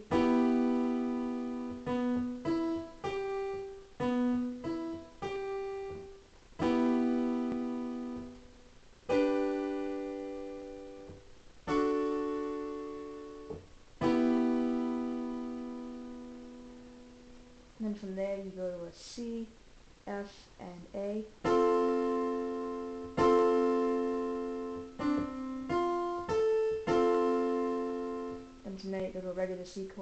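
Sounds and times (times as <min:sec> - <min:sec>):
piano chords: 0:00.0 - 0:17.8, 0:21.4 - 0:29.2.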